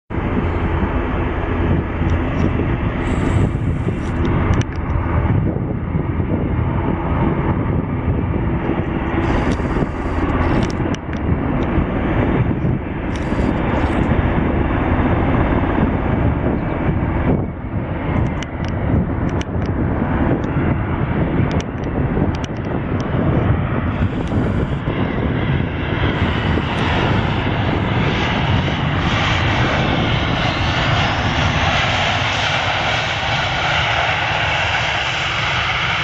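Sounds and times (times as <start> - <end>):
jet airliner engines: 0.1 - 36.0.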